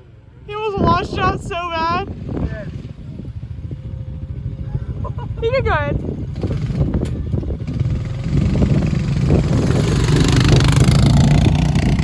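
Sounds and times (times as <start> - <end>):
dirt bike engine running: 1.0 - 12.0.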